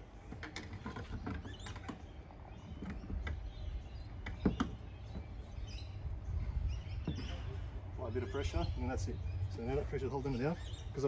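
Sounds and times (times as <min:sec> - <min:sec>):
low steady rumble: 0:02.0 - 0:11.0.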